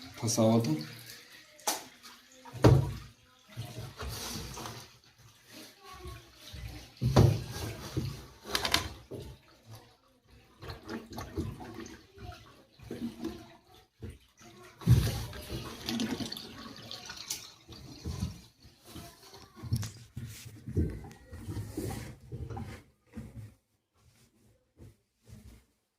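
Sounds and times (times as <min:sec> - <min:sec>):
water splashing and sloshing: 0:00.0 - 0:25.9.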